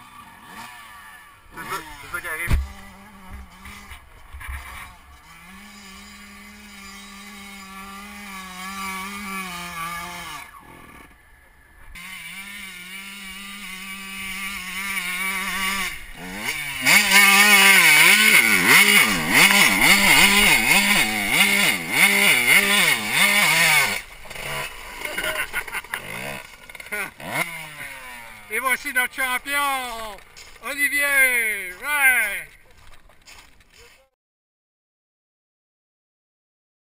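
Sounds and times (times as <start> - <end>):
motocross bike engine revving: 0.0 - 32.6.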